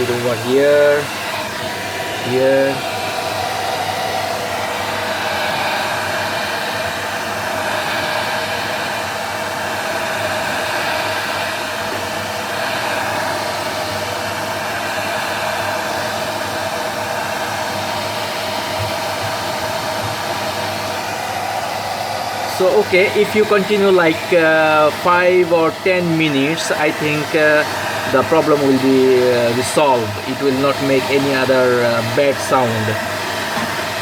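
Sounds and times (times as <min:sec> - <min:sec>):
hair dryer blowing: 0:00.0 - 0:34.0.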